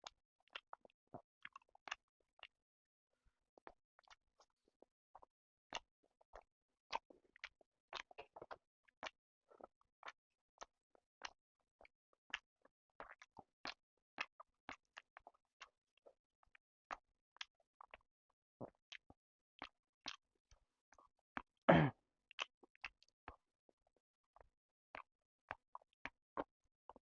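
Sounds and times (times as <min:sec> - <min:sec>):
close-miked chewing: 0:00.1 - 0:02.6, 0:03.6 - 0:21.5, 0:22.3 - 0:23.8.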